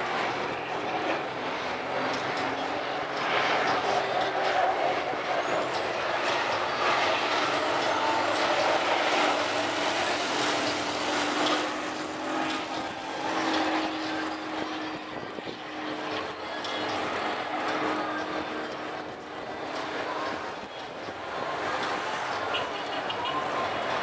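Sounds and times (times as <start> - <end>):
racing truck engines droning: 0.0 - 24.0.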